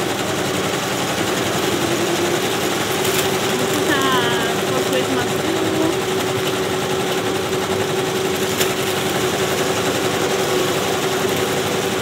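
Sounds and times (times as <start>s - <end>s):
embroidery machines stitching: 0.0s - 12.0s.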